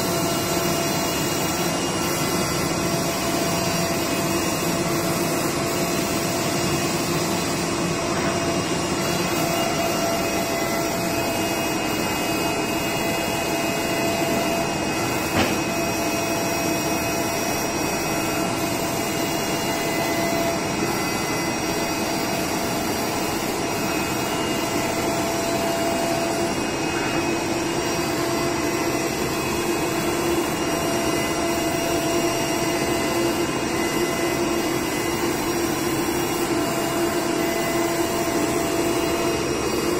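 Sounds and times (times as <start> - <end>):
cutting table blower whir: 0.0 - 39.9.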